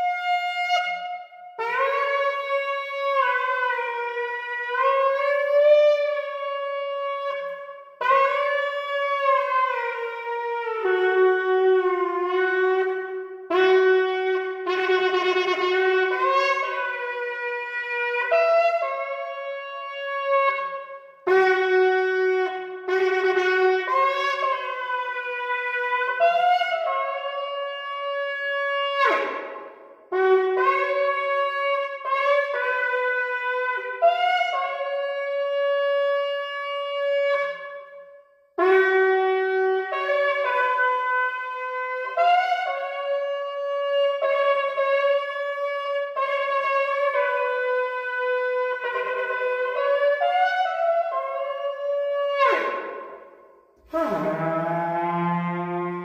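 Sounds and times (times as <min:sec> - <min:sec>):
shofar blasts: 0:00.0 - 0:56.0.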